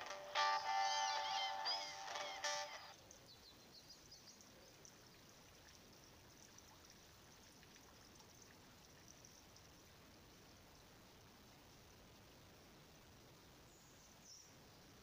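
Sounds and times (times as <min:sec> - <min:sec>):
faint outdoor background hiss: 0:00.0 - 0:15.0.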